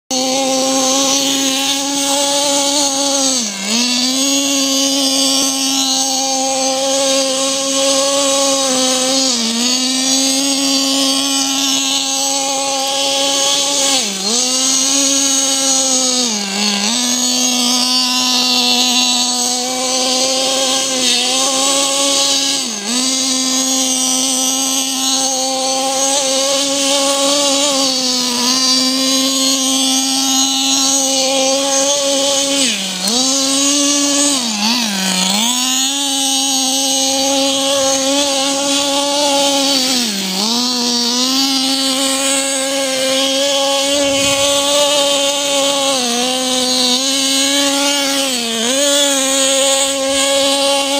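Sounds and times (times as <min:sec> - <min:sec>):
nitro engine running at high revs: 0:00.0 - 0:50.9.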